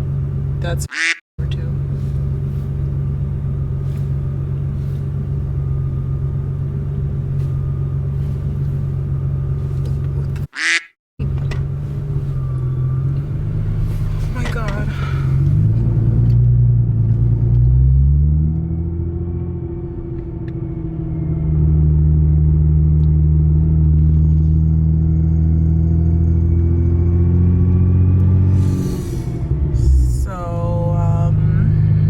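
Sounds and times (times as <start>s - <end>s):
car engine accelerating: 0.0s - 10.5s, 11.2s - 32.0s.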